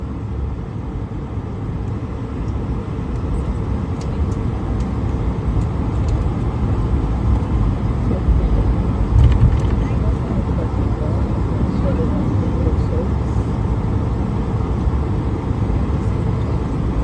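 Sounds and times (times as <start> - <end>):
jet engines low rumble: 0.0 - 17.0.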